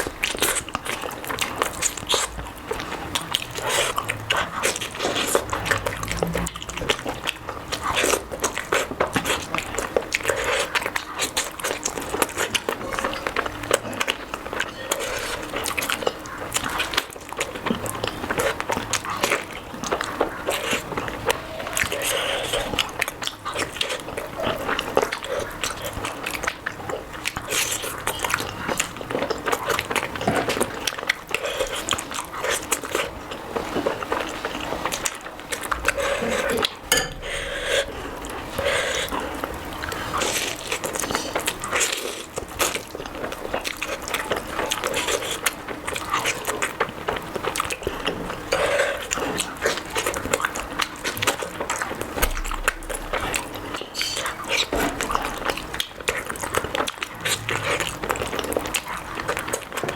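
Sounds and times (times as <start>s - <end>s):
person chewing and smacking food: 0.0s - 59.9s.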